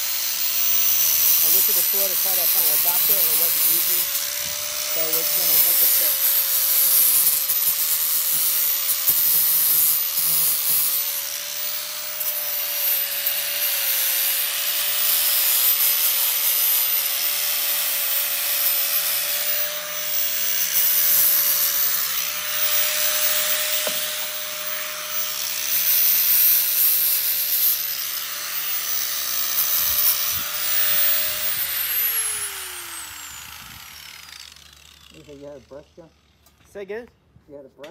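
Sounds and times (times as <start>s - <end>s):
angle grinder grinding metal: 0.0s - 37.0s.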